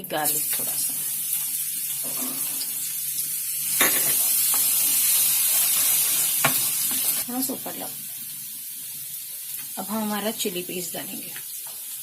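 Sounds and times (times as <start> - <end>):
garlic sizzling in oil: 0.0 - 12.0.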